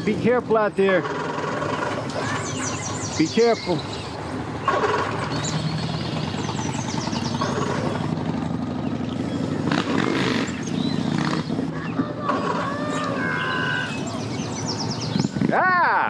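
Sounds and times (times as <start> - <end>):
motorcycles riding past: 0.0 - 15.5.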